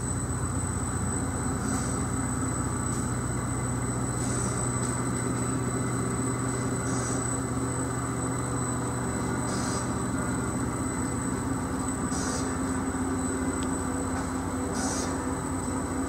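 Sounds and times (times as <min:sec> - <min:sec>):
high-pitched whine: 0:00.0 - 0:16.0
motor and conveyor hum: 0:00.0 - 0:16.0.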